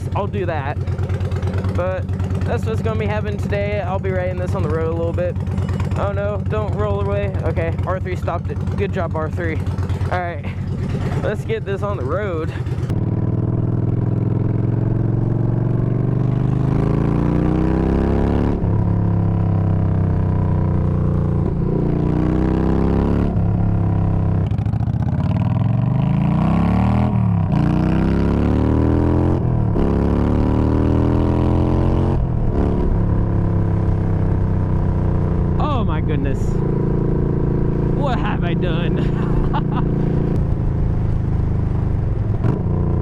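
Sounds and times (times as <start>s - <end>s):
loud motorcycle accelerating: 0.0s - 43.0s.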